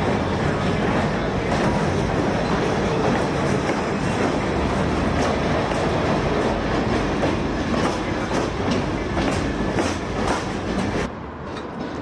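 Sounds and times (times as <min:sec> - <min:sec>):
train rumbling past: 0:00.0 - 0:12.0
wheels clicking over rail joints: 0:00.0 - 0:12.0.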